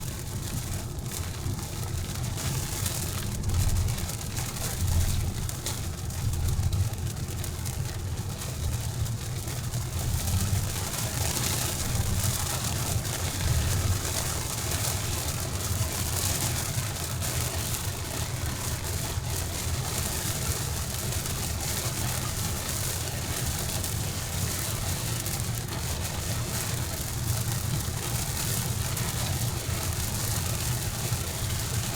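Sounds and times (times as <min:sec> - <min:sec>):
rain hissing: 0:00.0 - 0:31.9
vehicle rumbling on road: 0:00.0 - 0:31.9.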